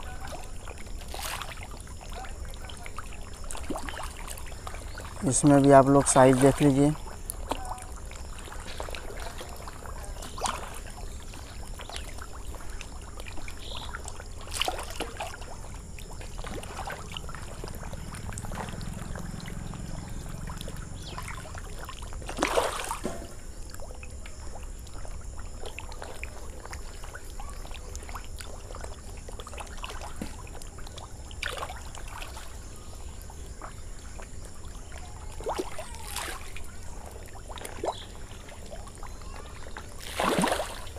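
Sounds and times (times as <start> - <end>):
fish splashing at water surface: 0.0 - 32.6, 33.5 - 40.9.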